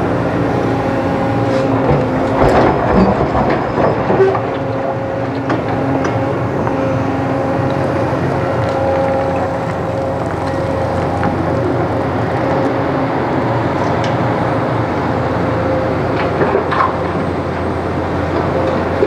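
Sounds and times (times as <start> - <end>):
excavator diesel engine: 0.0 - 19.0.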